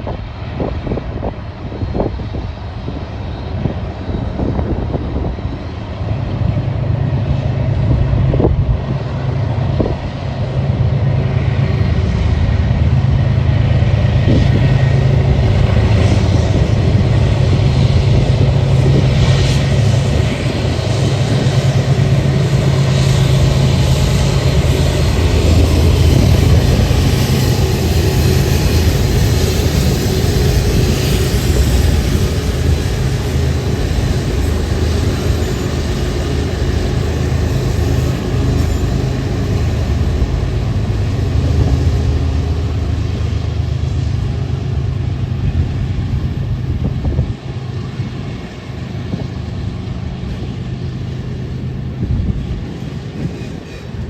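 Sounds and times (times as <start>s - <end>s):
diesel locomotive engine drone: 0.0s - 54.0s
wind-like train noise: 0.0s - 54.0s.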